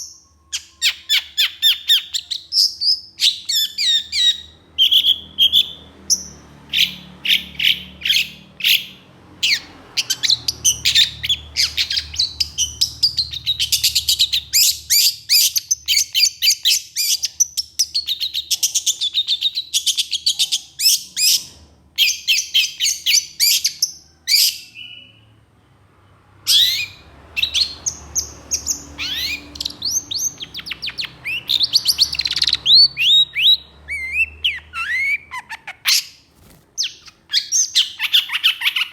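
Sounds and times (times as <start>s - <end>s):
bird harsh chattering song: 0.0s - 25.3s, 26.5s - 38.9s.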